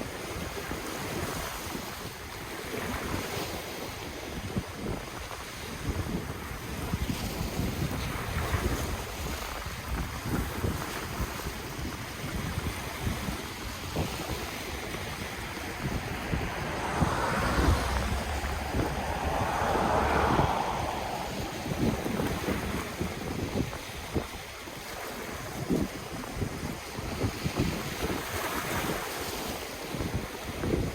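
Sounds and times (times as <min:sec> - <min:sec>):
wind buffeting microphone: 0:00.0 - 0:30.9
ocean waves washing ashore: 0:02.1 - 0:30.9.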